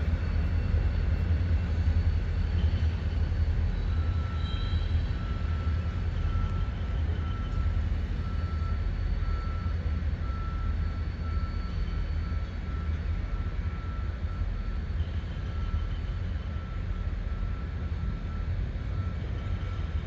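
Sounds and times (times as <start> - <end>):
diesel locomotives rumbling: 0.0 - 20.0.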